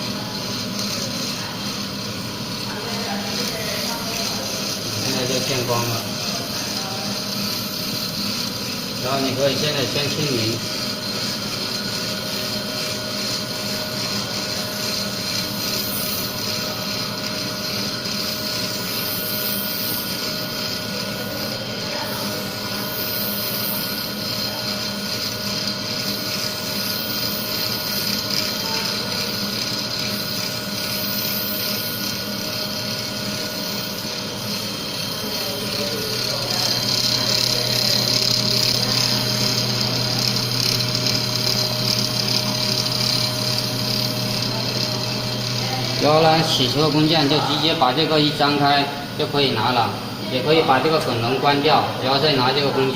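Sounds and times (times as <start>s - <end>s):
grinder motor humming with hiss: 0.0s - 52.9s.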